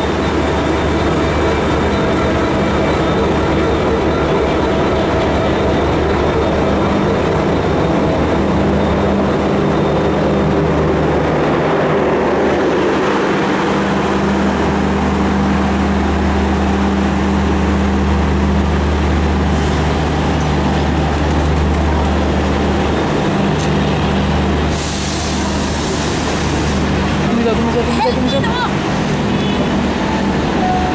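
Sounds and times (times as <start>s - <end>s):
diesel locomotive engine working: 0.0s - 30.9s
train wheels on rails: 0.0s - 30.9s.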